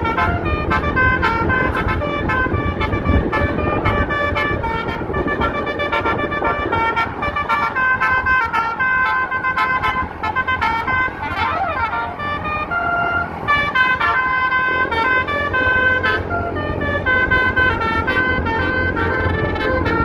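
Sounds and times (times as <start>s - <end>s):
musical air horn melody: 0.0s - 20.0s
steady low rumble: 0.0s - 20.0s.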